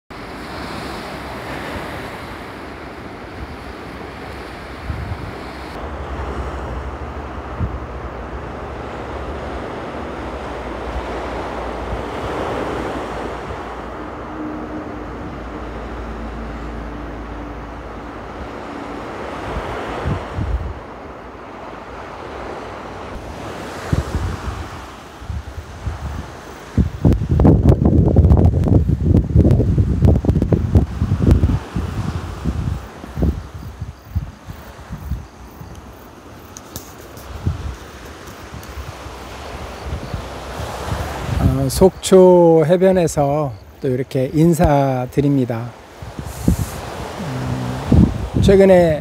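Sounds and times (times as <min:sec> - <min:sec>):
small waves breaking on shore: 0:00.1 - 0:49.0
wind buffeting the microphone: 0:00.4 - 0:42.0, 0:44.6 - 0:49.0.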